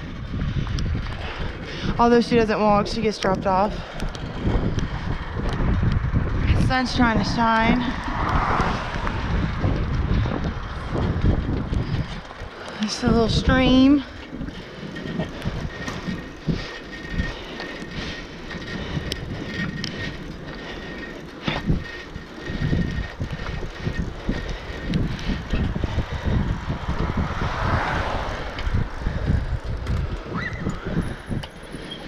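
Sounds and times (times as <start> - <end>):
bicycle rattles and clicks: 0.0 - 32.0
wind gusting over microphone: 0.0 - 32.0.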